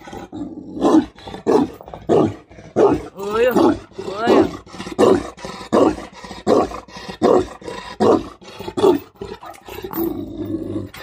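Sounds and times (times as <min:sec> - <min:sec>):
large dog barking deeply: 0:00.7 - 0:09.8.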